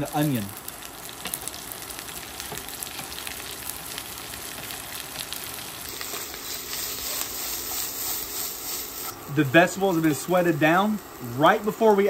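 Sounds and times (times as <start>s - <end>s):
onion frying in grease: 0.0s - 12.0s.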